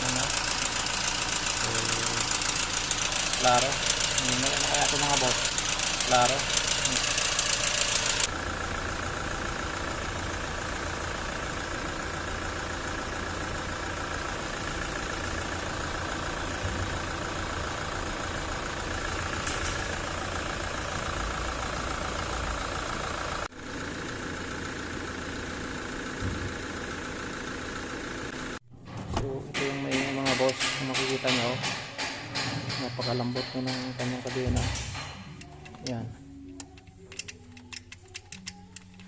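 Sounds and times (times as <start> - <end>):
engine timing chain rattle: 0.0 - 10.7, 11.4 - 27.0, 29.5 - 39.0
diesel engine idling: 0.0 - 39.0.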